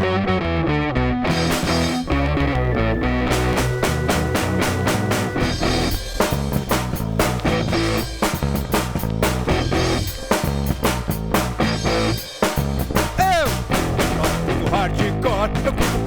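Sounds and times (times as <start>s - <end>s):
punk rock music: 0.0s - 16.0s.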